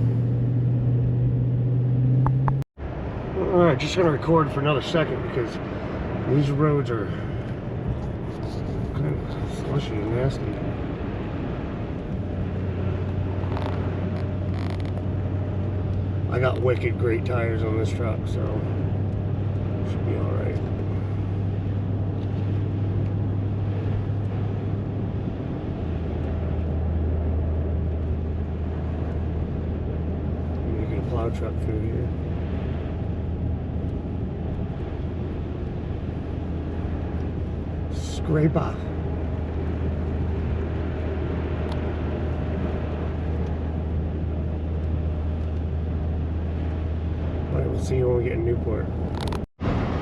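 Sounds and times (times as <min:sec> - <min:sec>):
truck engine drone: 0:00.0 - 0:50.0.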